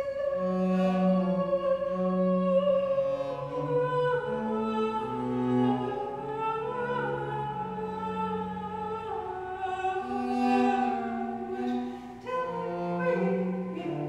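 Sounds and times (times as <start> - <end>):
bowed cello low notes: 0.0 - 14.0
woman singing long note: 0.0 - 14.0.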